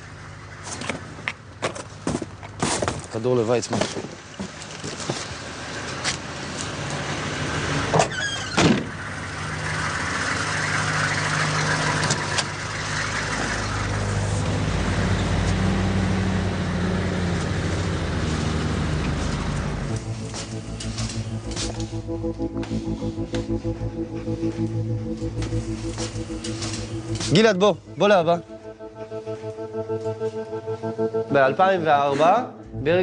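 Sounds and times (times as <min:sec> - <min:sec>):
car engine hum: 0:00.0 - 0:02.6, 0:04.1 - 0:31.3
road noise: 0:00.0 - 0:33.0.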